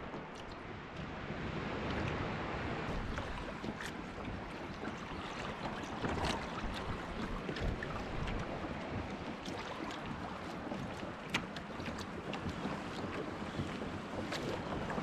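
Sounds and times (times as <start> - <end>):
water splashing against hulls: 0.0 - 15.0
wind on microphone: 0.0 - 15.0.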